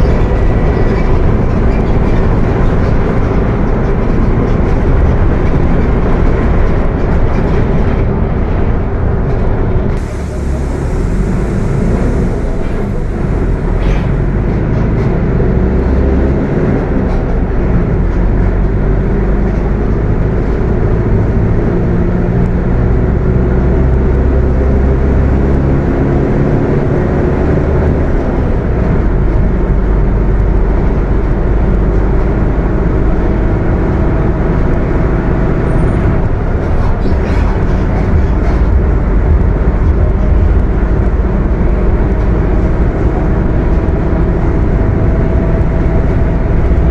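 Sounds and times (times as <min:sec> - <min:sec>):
bus engine rumbling: 0:00.0 - 0:46.9.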